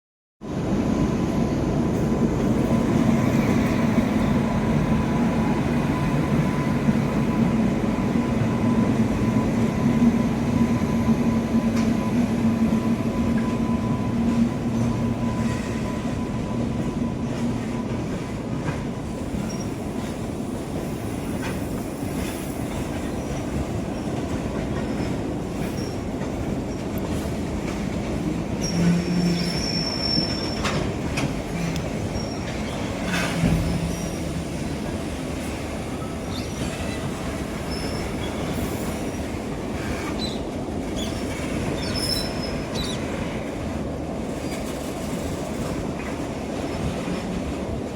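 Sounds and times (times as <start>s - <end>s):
freight train wheels rumbling on rail: 0.4s - 47.9s.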